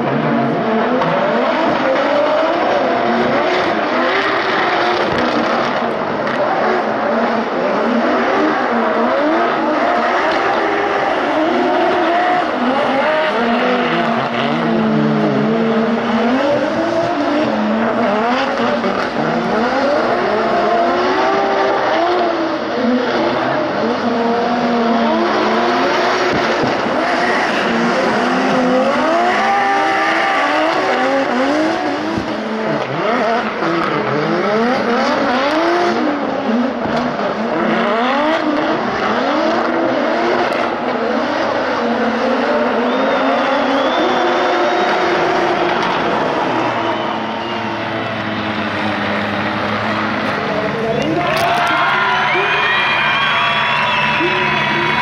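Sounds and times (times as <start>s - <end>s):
high-revving car engines: 0.0s - 55.0s.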